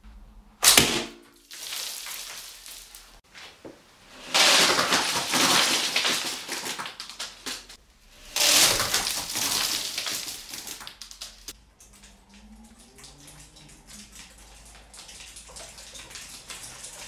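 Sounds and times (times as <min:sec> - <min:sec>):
dense crackling and crunching: 0:00.0 - 0:17.0.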